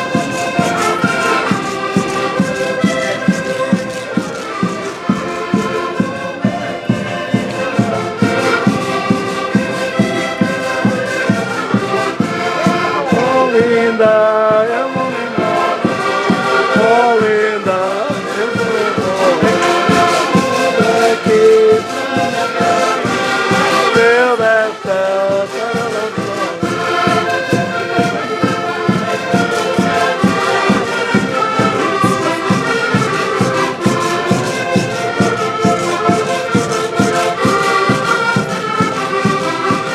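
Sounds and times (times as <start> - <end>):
accordions playing lively tune: 0.0 - 39.9.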